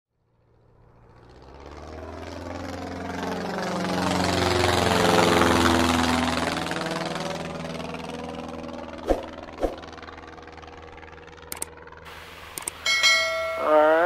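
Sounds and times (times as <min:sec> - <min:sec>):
aircraft flying past: 0:00.2 - 0:14.0.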